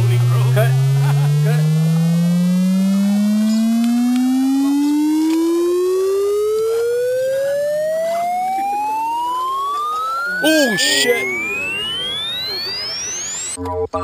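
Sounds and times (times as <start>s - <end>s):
electronic tone rising in pitch: 0.0s - 13.6s.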